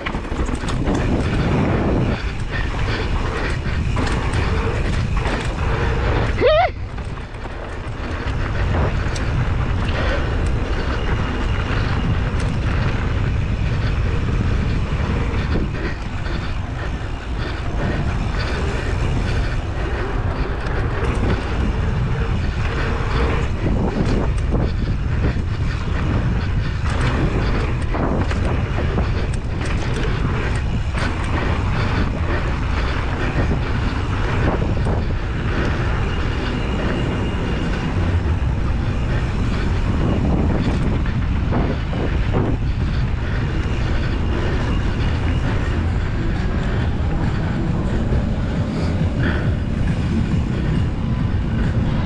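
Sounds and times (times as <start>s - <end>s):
bike clicks and knocks: 0.0s - 47.0s
tyres on loose dirt: 0.0s - 52.0s
wind buffeting microphone: 0.0s - 52.0s.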